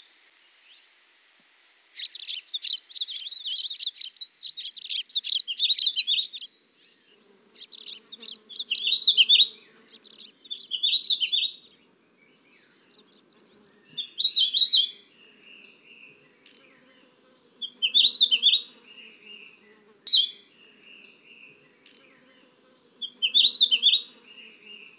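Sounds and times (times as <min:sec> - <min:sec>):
songbirds chirping: 0:02.0 - 0:24.9.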